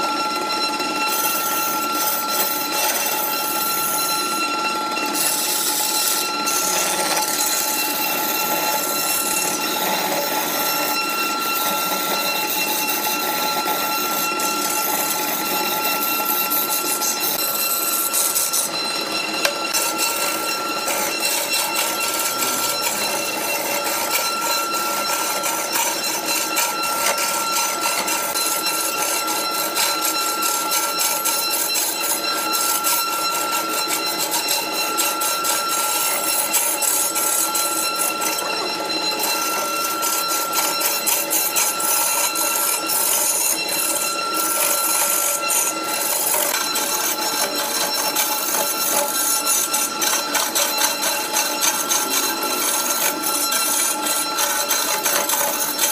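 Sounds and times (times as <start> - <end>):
lathe high tone: 0.0 - 55.9
chisel scraping on wood: 1.0 - 55.9.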